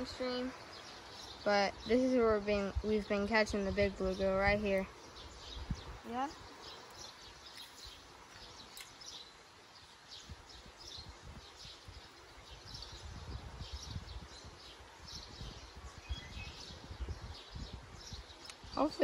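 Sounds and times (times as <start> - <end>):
bird chirps: 0.0 - 19.0
low rumble on microphone: 0.0 - 19.0.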